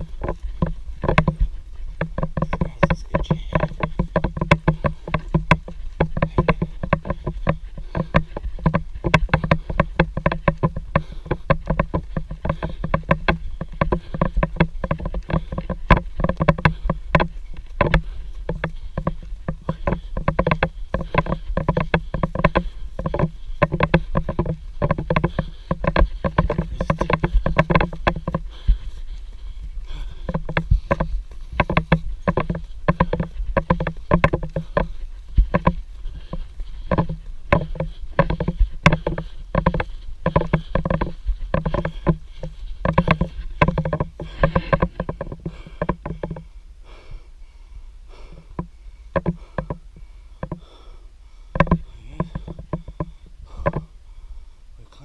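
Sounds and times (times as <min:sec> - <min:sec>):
running footsteps on dirt path: 0:00.0 - 0:55.0.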